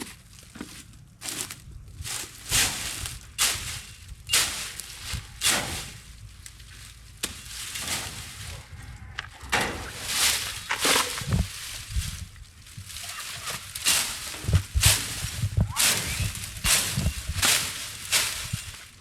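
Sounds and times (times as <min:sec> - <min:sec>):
dry leaves crunching and rustling: 0:00.0 - 0:19.0.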